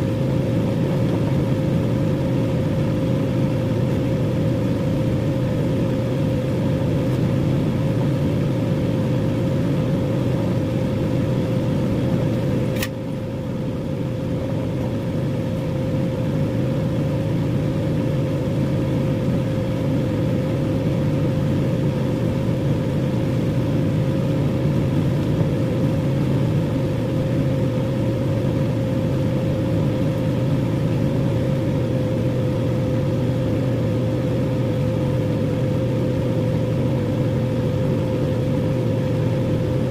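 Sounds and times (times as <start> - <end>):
microwave oven humming: 0.0 - 39.9.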